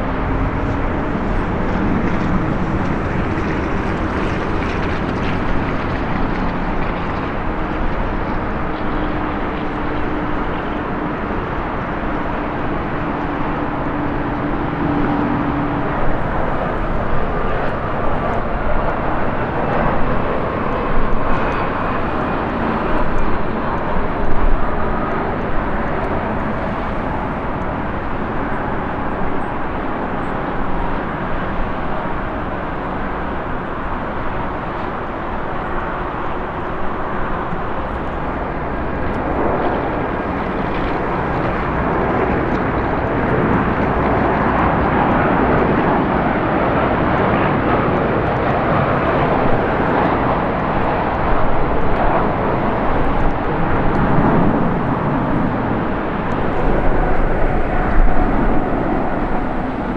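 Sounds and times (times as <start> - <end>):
jet airliner engine roar: 0.0 - 59.9.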